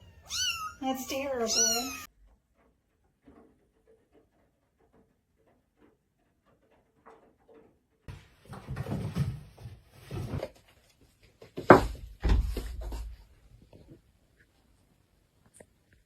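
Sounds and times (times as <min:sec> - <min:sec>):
rustling and clattering: 0:01.7 - 0:16.0.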